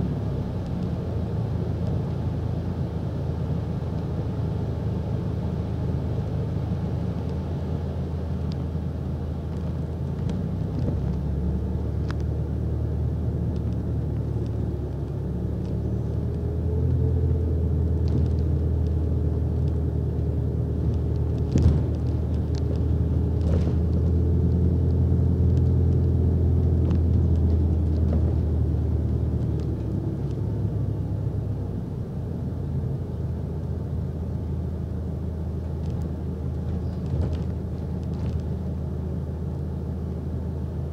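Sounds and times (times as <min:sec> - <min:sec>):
bus engine and road rumble: 0:00.0 - 0:40.9.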